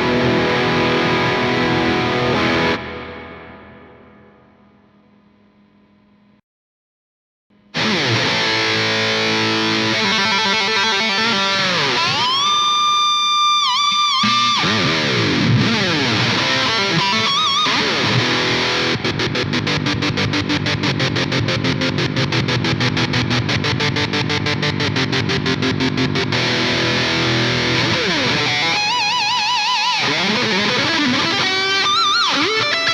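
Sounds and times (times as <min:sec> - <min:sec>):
distorted electric guitar solo: 0:00.0 - 0:04.0, 0:07.8 - 0:32.9.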